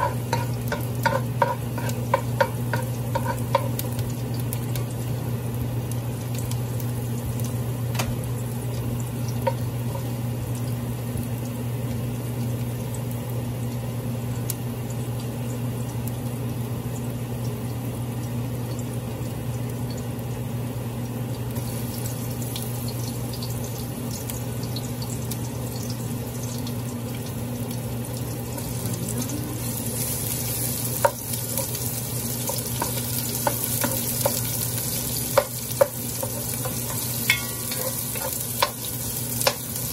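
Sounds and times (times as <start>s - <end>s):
garlic sizzling in oil: 0.0s - 39.9s
steady low hum: 0.0s - 39.9s.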